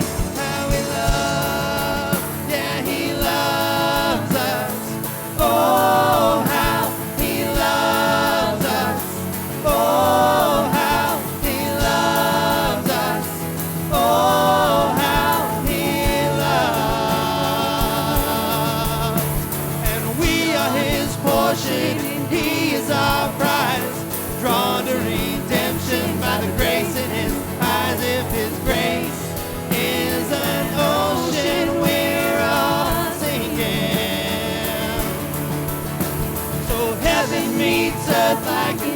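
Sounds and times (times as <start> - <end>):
worship band playing a song: 0.0 - 38.9.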